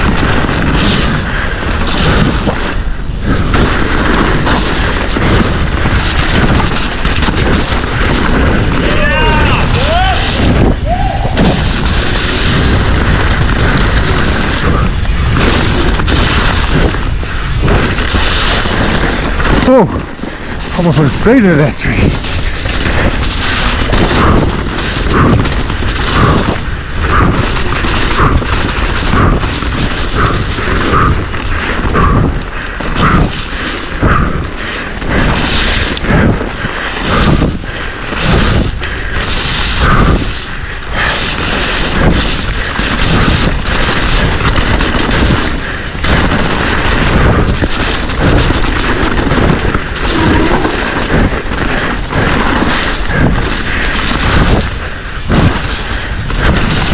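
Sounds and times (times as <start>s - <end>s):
bike knocking and rattling: 0.0s - 56.9s
wind rushing on microphone: 0.0s - 56.9s.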